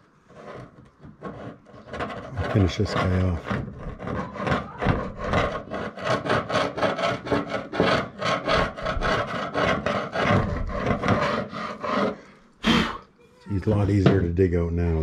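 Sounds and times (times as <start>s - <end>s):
tool scraping filler off metal: 0.0s - 12.4s, 13.6s - 14.6s.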